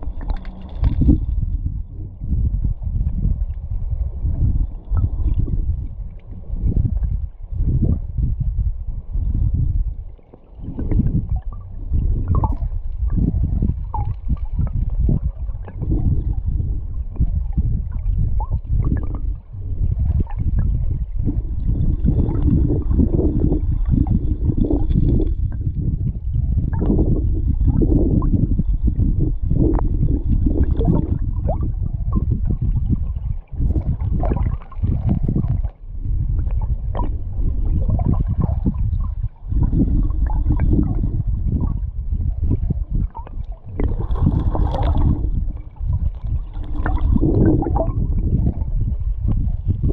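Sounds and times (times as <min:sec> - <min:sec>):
underwater river rumble: 0:00.0 - 0:49.9.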